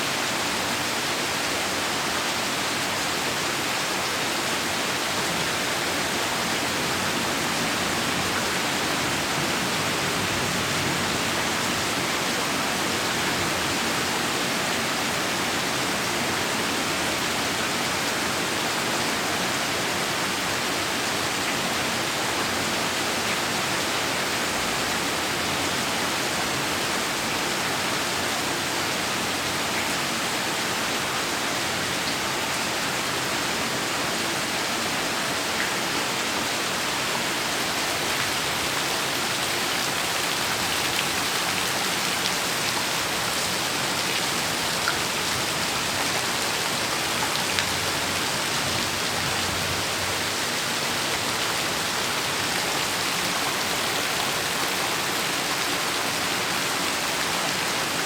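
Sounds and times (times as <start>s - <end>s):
heavy rain falling: 0.1s - 28.5s, 33.8s - 58.0s.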